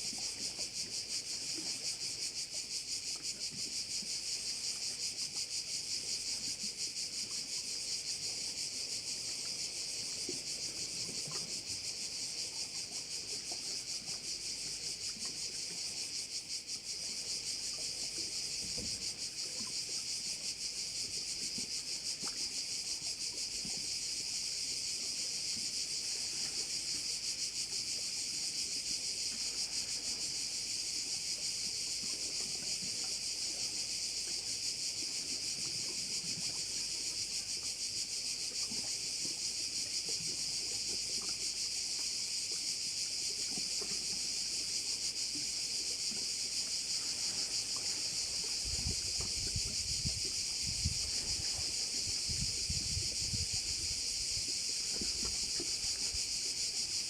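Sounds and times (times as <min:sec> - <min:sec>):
cicadas shrilling: 0:00.0 - 0:57.0.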